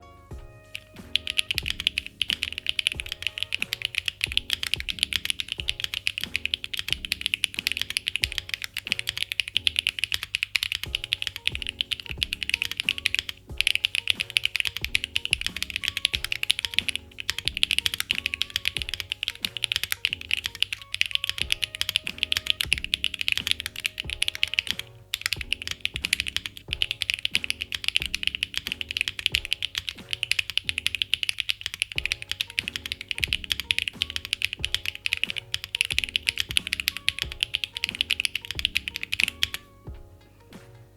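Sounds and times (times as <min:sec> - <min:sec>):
mechanical keyboard typing: 0:00.8 - 0:39.7.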